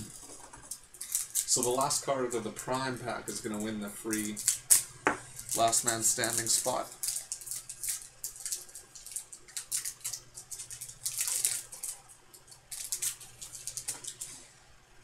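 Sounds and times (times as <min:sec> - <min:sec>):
foil wrapper tearing and crinkling: 0:00.7 - 0:02.0, 0:03.4 - 0:14.3.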